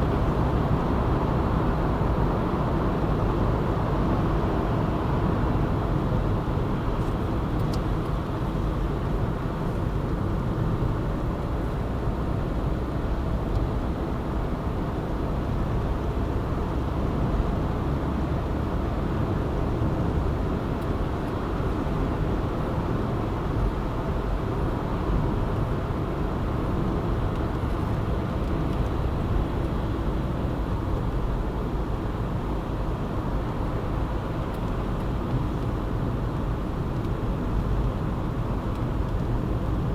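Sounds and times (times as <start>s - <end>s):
tyres rumbling on road: 0.0s - 39.9s.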